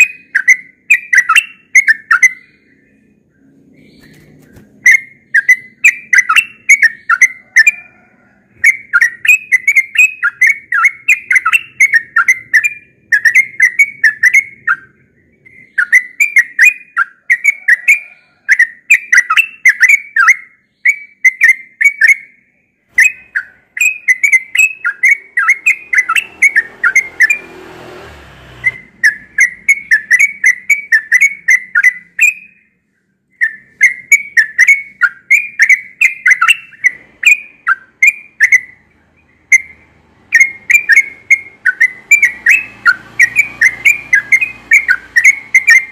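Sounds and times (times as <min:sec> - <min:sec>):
bird singing whistled phrases: 0:00.0 - 0:02.9, 0:03.8 - 0:07.9, 0:08.6 - 0:27.5, 0:28.6 - 0:32.7, 0:33.3 - 0:38.8, 0:39.5 - 0:45.9.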